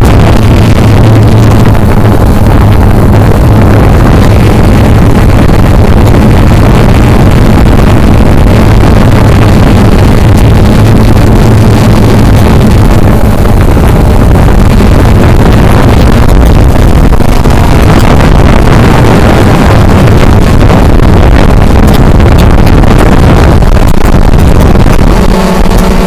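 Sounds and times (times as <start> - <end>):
drone motors humming: 0.0 - 26.0.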